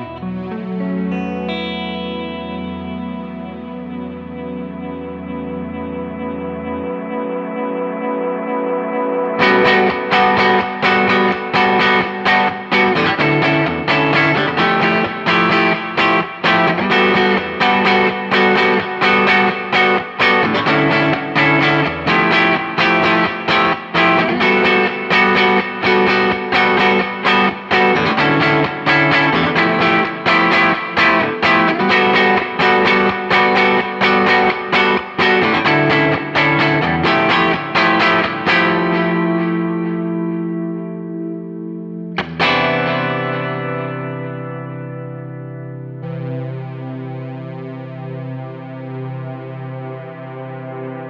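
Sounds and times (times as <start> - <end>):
electric guitar picking arpeggios: 0.0 - 51.0.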